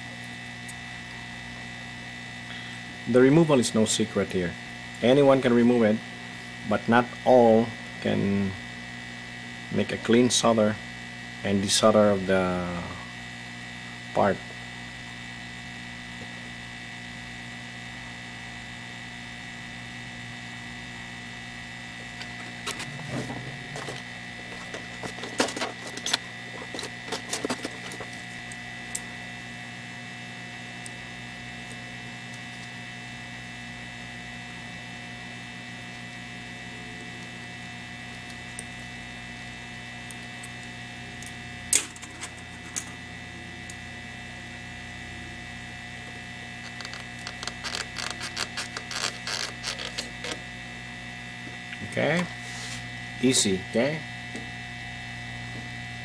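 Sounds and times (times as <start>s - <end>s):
heat gun humming and whining: 0.0s - 56.0s.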